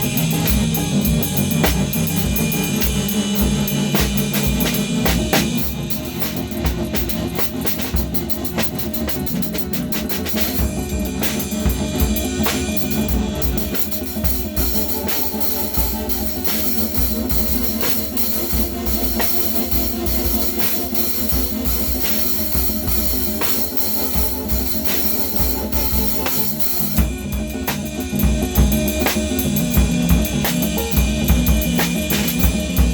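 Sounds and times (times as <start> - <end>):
drum and cymbal hits: 0.0 - 32.9
synthesizer drone: 0.0 - 32.9.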